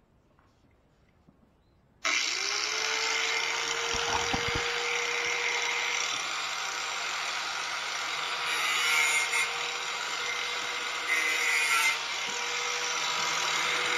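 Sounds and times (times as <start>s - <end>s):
angle grinder motor whine: 2.1s - 13.9s.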